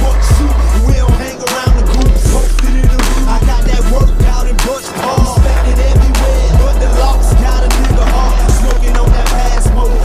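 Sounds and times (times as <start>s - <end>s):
hip-hop backing track: 0.0s - 10.0s.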